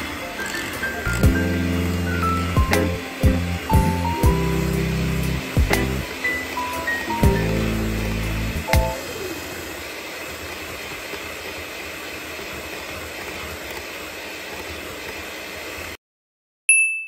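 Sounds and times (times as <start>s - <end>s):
electric mixer whipping batter: 0.0s - 16.0s.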